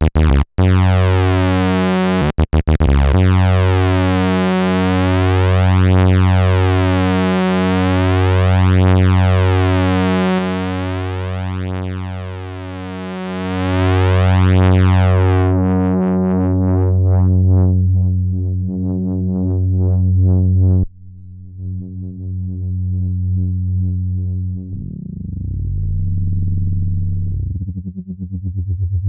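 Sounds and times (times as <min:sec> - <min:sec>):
synthesizer bass note wobbling: 0:00.0 - 0:29.0.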